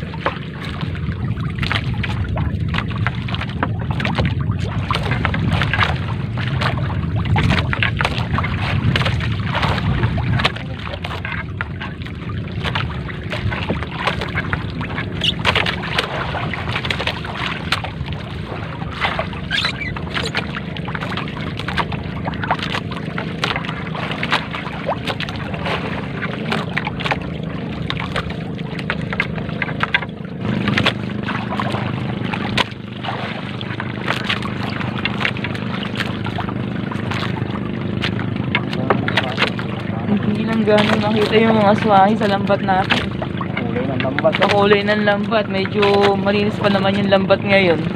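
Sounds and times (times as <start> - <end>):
boat engine humming: 0.0 - 47.9.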